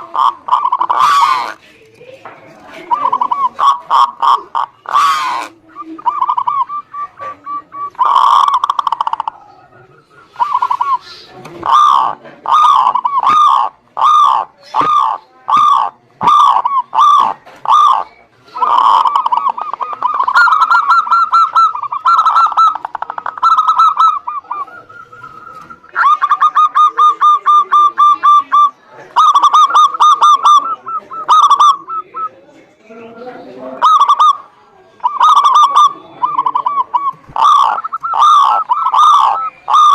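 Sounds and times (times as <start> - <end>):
dove cooing and trilling: 0.0 - 1.7, 2.6 - 32.5, 33.2 - 39.9.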